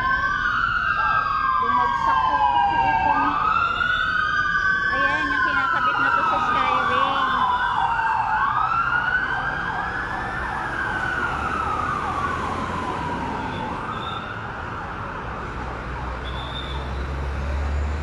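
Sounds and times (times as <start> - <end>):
emergency siren yelp: 0.0 - 17.5
emergency siren wail: 0.0 - 18.0.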